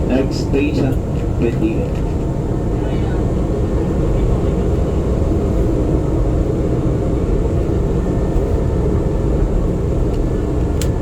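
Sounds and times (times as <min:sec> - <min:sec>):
train rumbling inside carriage: 0:00.0 - 0:11.0.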